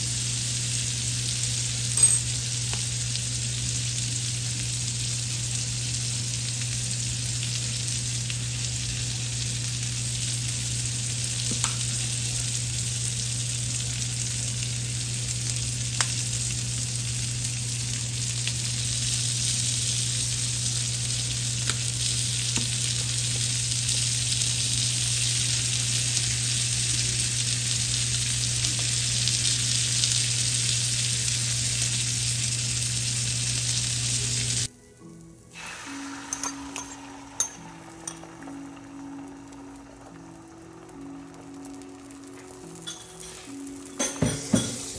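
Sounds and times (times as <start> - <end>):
food sizzling in a frying pan: 0.0 - 44.9.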